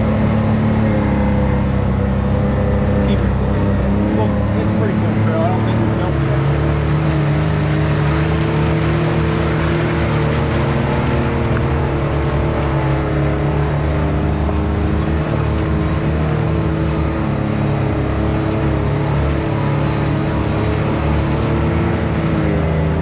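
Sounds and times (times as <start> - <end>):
off-road vehicle engine running: 0.0 - 23.0.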